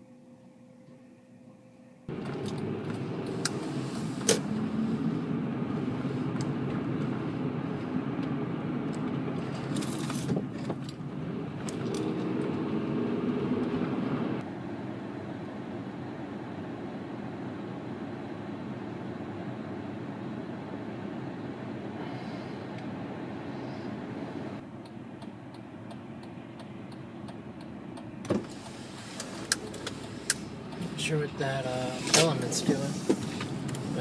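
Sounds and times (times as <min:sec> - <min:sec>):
road and engine noise in cabin: 0:00.0 - 0:34.0.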